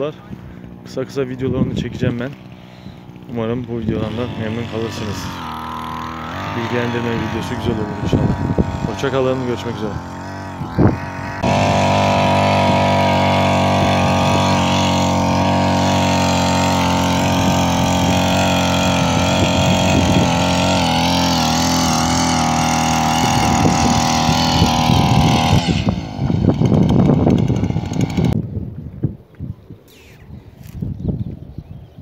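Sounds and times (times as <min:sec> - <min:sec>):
earth auger engine running: 0:00.1 - 0:28.4.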